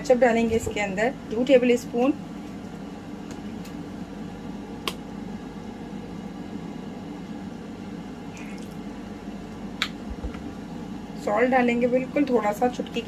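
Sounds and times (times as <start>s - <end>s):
air fryer fan hum: 0.0s - 13.0s.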